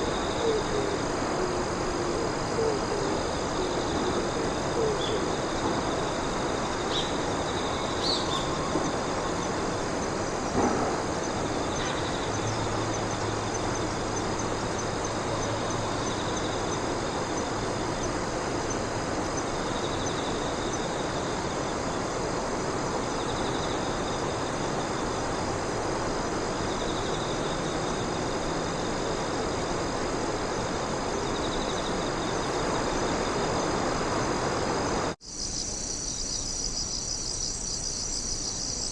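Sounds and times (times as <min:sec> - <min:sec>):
insects chirping: 0:00.0 - 0:38.9
insects trilling: 0:00.0 - 0:38.9
outdoor hiss: 0:00.0 - 0:38.9.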